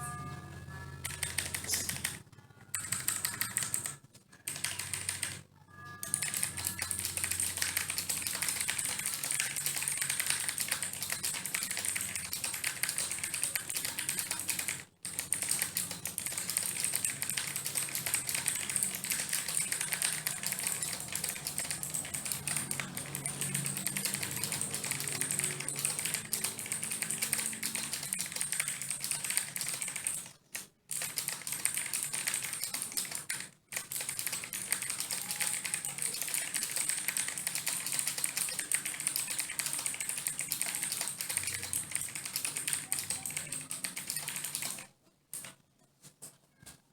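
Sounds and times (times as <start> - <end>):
mechanical keyboard typing clicks: 1.0 - 5.4, 6.0 - 45.6.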